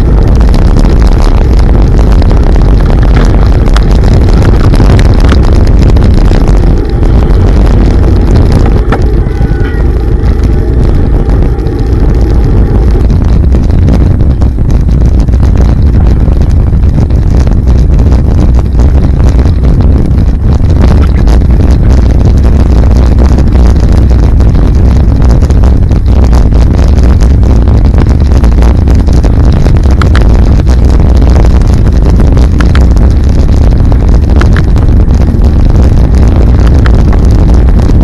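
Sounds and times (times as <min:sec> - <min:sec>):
bicycle road noise on wet road: 0:00.0 - 0:38.0
wind buffeting microphone: 0:00.0 - 0:38.0.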